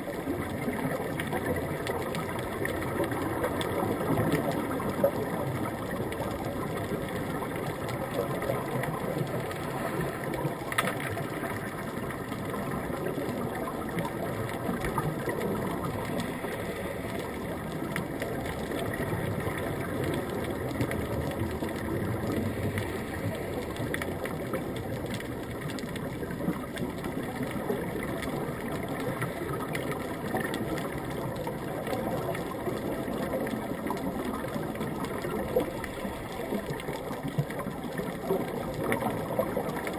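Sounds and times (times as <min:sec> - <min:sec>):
faint underwater clicks: 0:00.0 - 0:39.9
muffled underwater rumble: 0:00.0 - 0:39.9.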